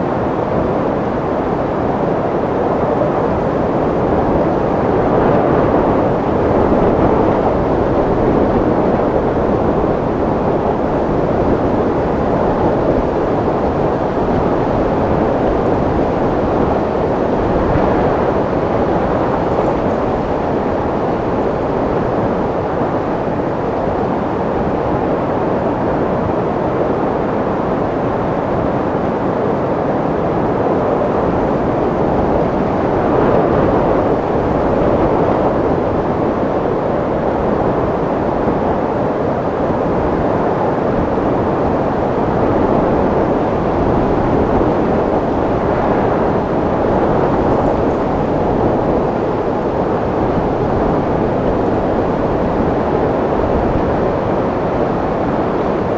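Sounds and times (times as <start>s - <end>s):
wind blowing: 0.0s - 55.9s.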